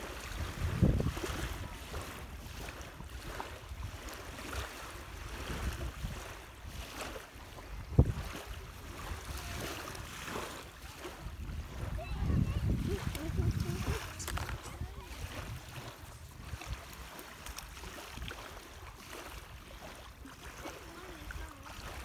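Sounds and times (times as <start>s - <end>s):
wind on microphone: 0.0s - 20.0s
waves lapping at shore: 0.0s - 22.0s.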